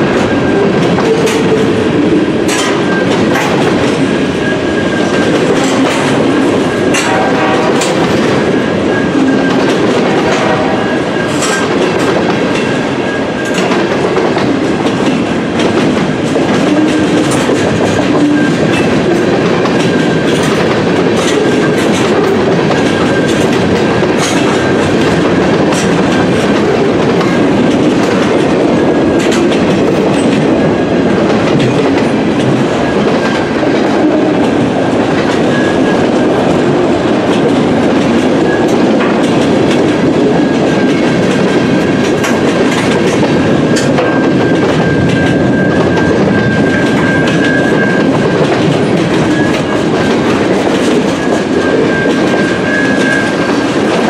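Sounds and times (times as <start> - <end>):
freight train wheels rumbling: 0.0 - 54.0
wheels clicking over rail joints: 0.0 - 54.0.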